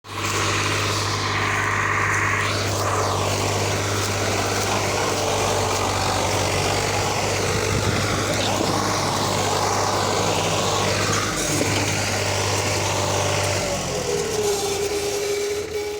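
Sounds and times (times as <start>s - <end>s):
tractor diesel engine droning: 0.0s - 15.9s.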